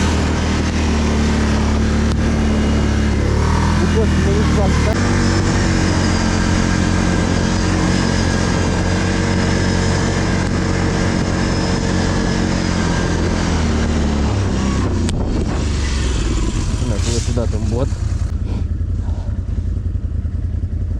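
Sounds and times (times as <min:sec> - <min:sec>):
atv engine running under load: 0:00.0 - 0:20.9.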